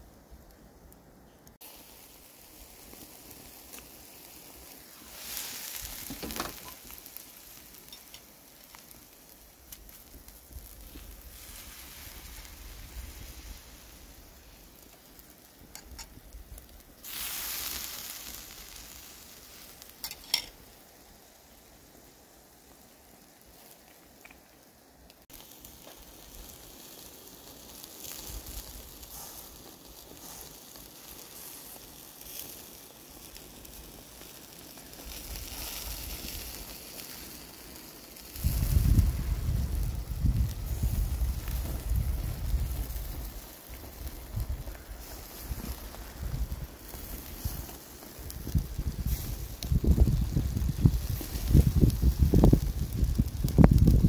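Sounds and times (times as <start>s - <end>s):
embers crackling: 0.0s - 54.0s
fish sizzling on a grill: 0.0s - 54.0s.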